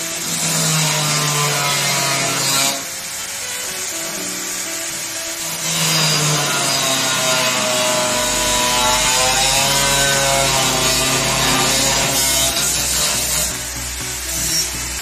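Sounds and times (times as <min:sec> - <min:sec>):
angle grinder grinding metal: 0:00.0 - 0:15.0.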